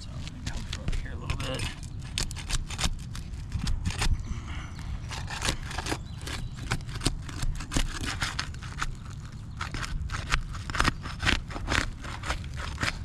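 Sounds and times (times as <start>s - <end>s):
shingle sealant cracking and scraping: 0.0s - 13.0s.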